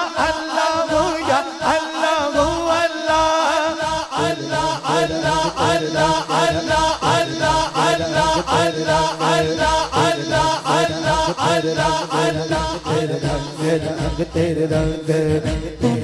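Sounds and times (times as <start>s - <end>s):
man chanting through microphone: 0.0s - 16.0s.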